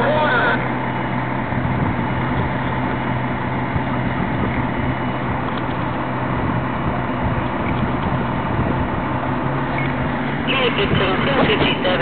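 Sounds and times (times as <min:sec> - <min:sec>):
fire engine engine running: 0:00.0 - 0:12.0.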